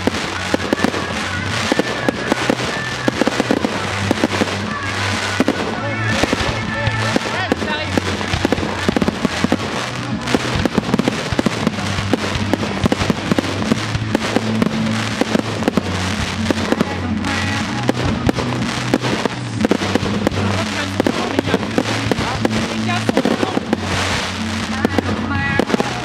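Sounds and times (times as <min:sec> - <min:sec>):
fireworks bursting and crackling: 0:00.0 - 0:26.0
music with bass line: 0:00.0 - 0:26.0.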